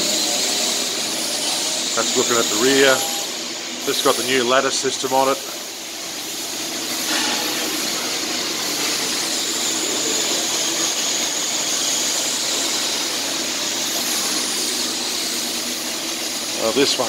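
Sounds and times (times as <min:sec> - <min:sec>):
workshop machinery rushing: 0:00.0 - 0:17.0.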